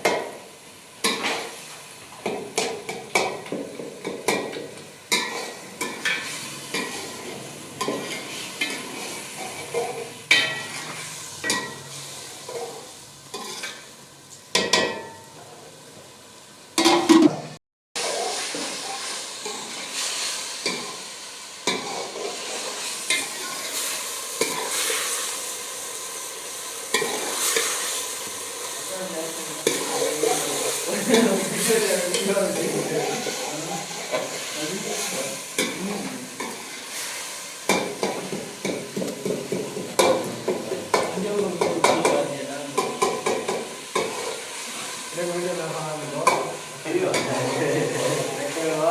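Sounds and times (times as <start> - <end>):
food sizzling: 0.0 - 48.9.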